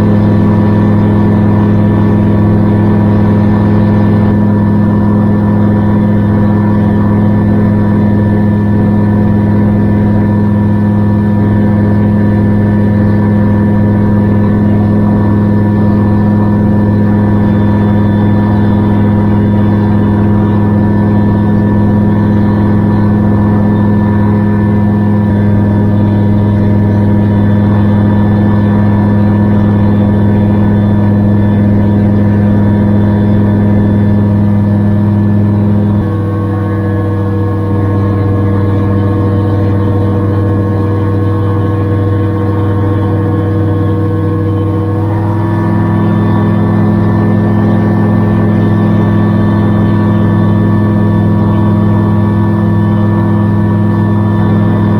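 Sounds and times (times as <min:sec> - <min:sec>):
gyrocopter engine and propeller: 0:00.0 - 0:54.9.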